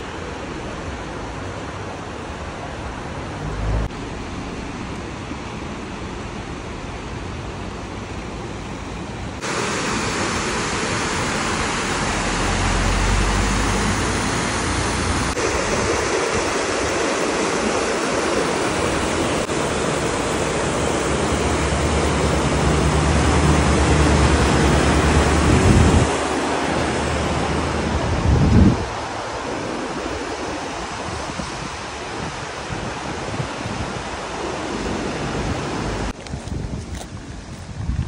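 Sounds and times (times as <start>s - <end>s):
river rushing over rocks: 0.0s - 36.2s.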